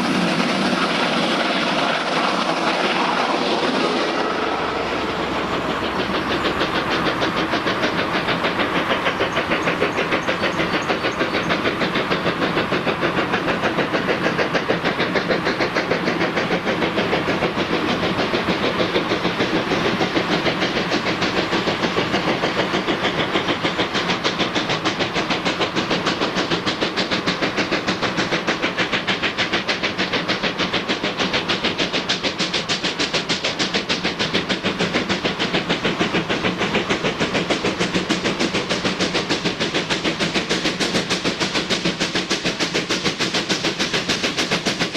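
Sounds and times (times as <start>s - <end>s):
steam train chugging: 0.0s - 44.9s.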